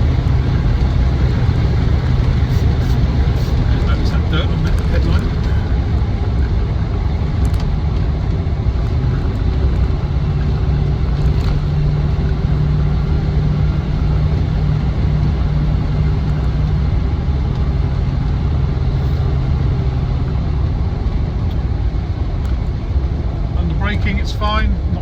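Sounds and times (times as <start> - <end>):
car engine driving: 0.0 - 25.0
road rumble: 0.0 - 25.0.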